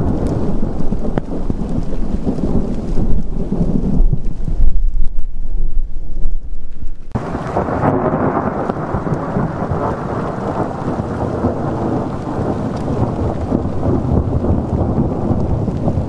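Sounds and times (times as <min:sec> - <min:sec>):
heavy rain: 0:00.0 - 0:16.0
thunder rumbling: 0:00.0 - 0:16.0.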